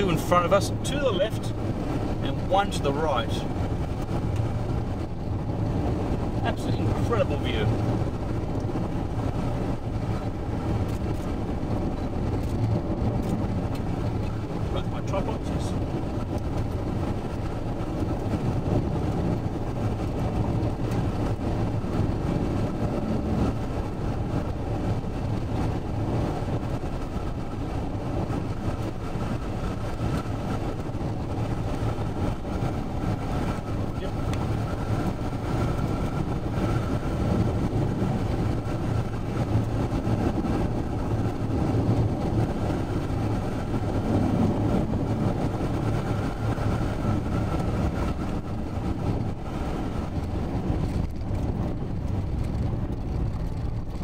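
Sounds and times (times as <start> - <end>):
low engine hum: 0.0 - 54.0
tyre and road noise: 0.0 - 54.0.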